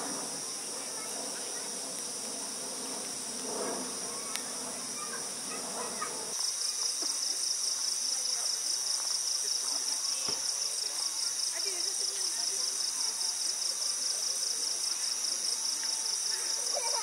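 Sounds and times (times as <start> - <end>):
night insects trilling: 0.0 - 17.0
rapid pulsing insect chirp: 0.0 - 17.0.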